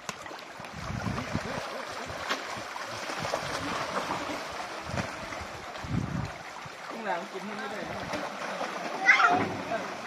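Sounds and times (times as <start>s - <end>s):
fish splashing in water: 0.0s - 10.0s.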